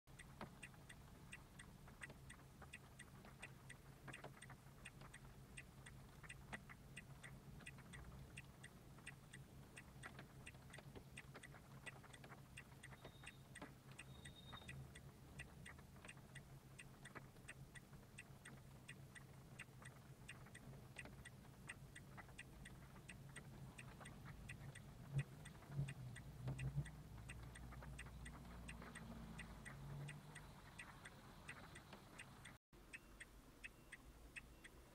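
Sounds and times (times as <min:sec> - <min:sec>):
faint steady ticking: 0:00.1 - 0:34.9.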